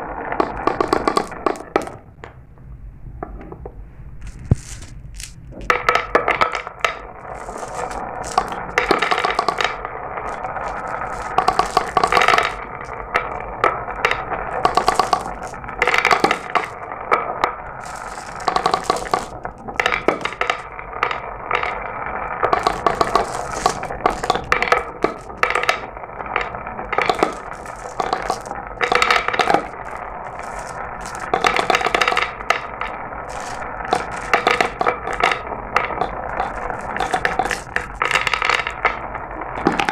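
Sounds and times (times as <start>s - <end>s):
glass marbles rolling and clattering: 0.0s - 2.0s, 4.2s - 39.9s.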